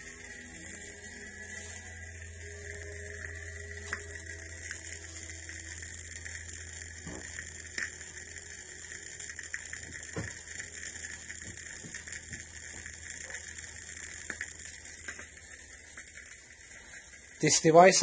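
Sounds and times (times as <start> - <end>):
record stylus crackle and hiss: 0.0 - 18.0
steady low hum: 0.0 - 18.0.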